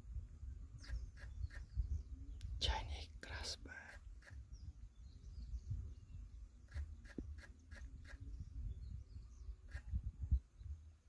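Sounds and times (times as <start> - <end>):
distant birds chirping: 0.1 - 11.0.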